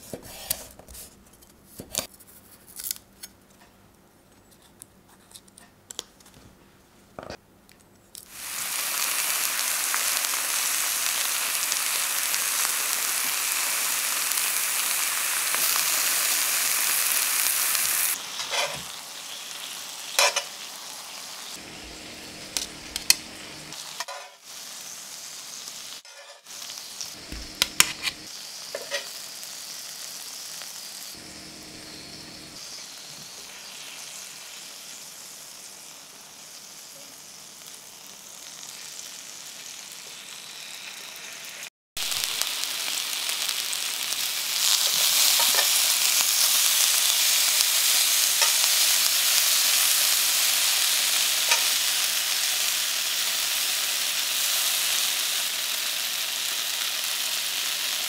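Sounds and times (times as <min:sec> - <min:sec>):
oil sizzling in a frying pan: 0:08.3 - 0:58.0.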